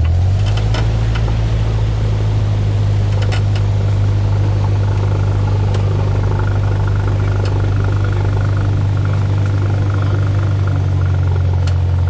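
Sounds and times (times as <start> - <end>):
light aircraft engine running: 0.0 - 12.0.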